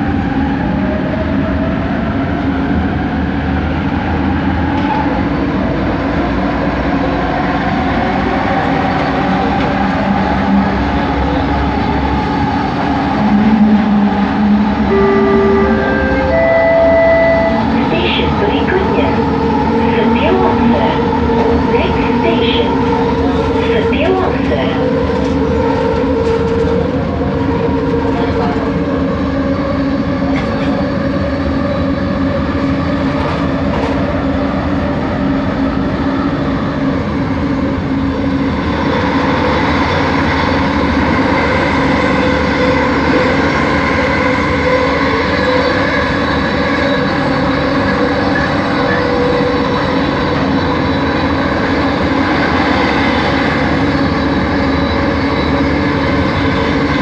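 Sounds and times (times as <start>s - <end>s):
train rolling noise: 0.0s - 57.0s
train traction motor whine: 7.7s - 57.0s.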